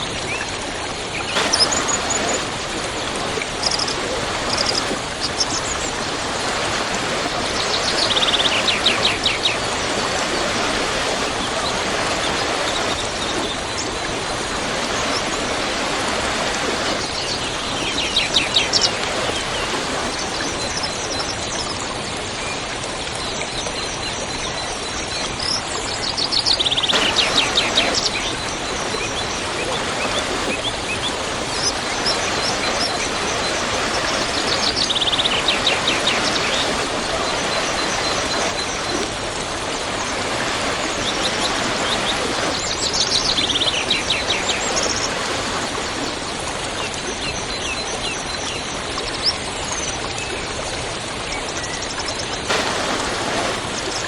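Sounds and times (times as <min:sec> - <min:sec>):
waterfall rushing: 0:00.0 - 0:21.9, 0:26.8 - 0:47.9, 0:52.5 - 0:54.0.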